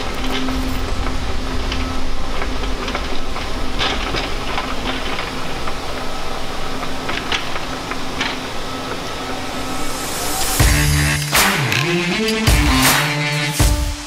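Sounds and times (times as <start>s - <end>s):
machinery hum and rumble: 0.0s - 14.0s.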